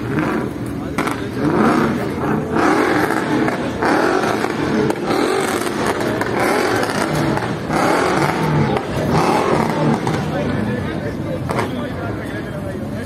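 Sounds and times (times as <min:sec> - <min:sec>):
car engine revving in blips: 0:00.0 - 0:10.8.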